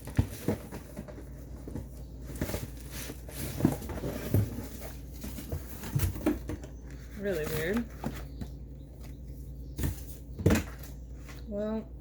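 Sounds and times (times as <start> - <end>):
taps and rustles of packaging: 0.0 - 11.4.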